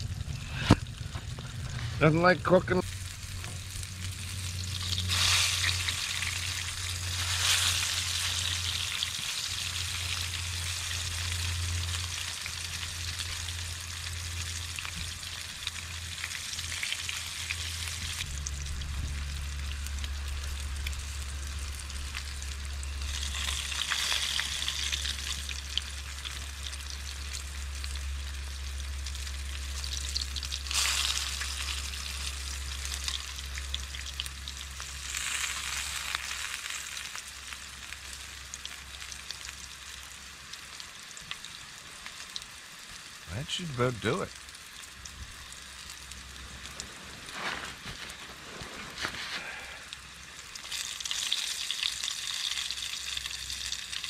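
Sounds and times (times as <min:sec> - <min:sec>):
food sizzling in a pan: 0:02.8 - 0:43.4, 0:44.3 - 0:54.0.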